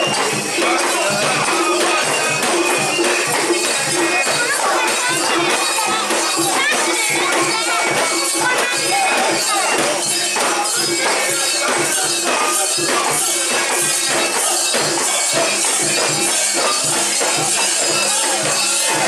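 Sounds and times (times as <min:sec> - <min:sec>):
crowd chanting rhythmically: 0:00.0 - 0:19.0
metallic jingling and shaking: 0:00.0 - 0:19.0.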